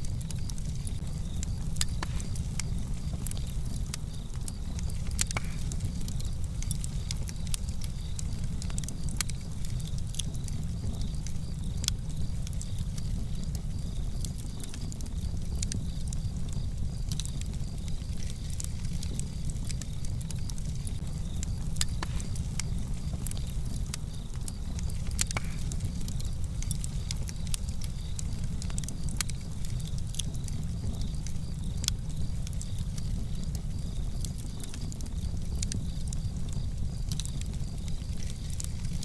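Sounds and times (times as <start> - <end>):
sharp pops of fire: 0.0 - 39.0
wood fire crackling: 0.0 - 39.0.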